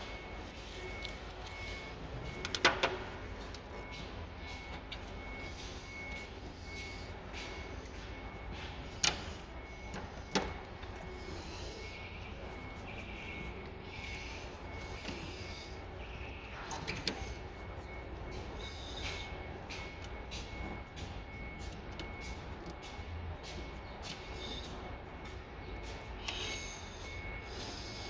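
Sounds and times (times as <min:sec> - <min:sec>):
low workshop hum: 0:00.0 - 0:28.0.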